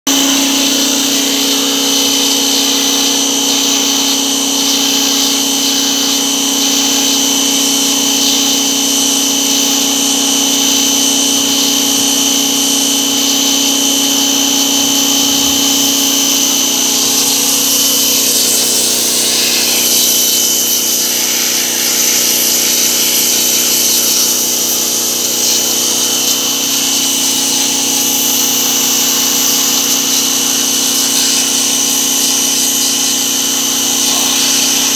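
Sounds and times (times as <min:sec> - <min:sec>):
pressure washer motor whine: 0:00.0 - 0:34.9
water jet hissing: 0:00.1 - 0:34.9.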